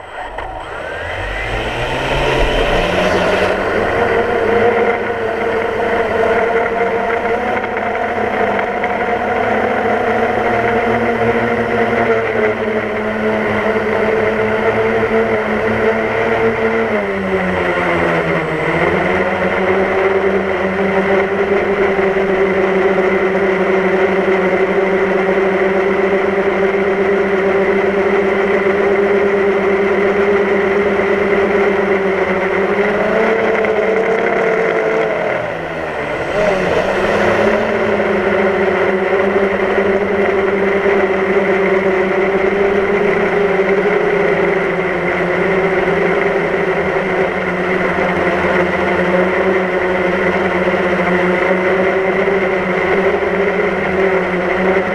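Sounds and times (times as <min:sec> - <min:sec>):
drone motors and propellers humming: 0:00.0 - 0:23.3, 0:24.0 - 0:54.9.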